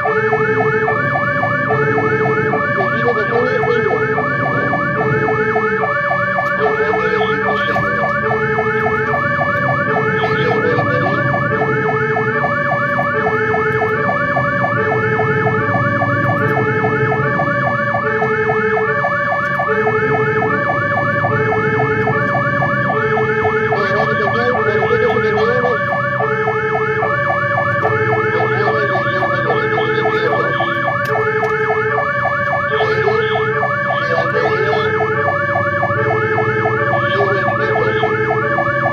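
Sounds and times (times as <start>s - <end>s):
fast warbling siren wail: 0.0s - 38.9s
truck engine: 0.0s - 38.9s
two-tone siren: 0.0s - 38.9s.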